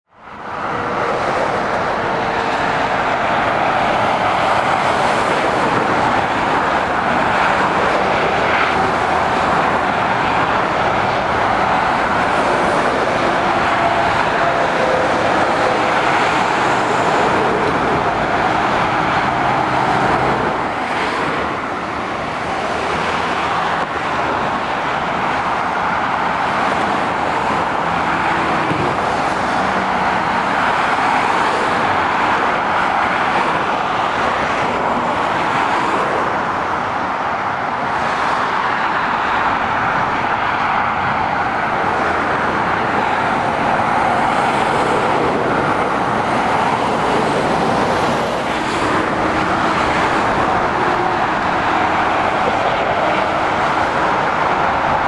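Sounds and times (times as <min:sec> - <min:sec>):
traffic driving past: 0:00.1 - 0:55.0.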